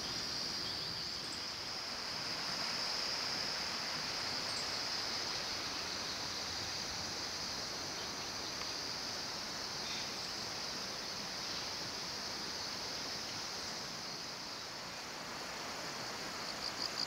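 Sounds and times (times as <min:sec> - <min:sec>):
insects chirping: 0:00.0 - 0:17.0
mountain river rushing: 0:01.5 - 0:17.0.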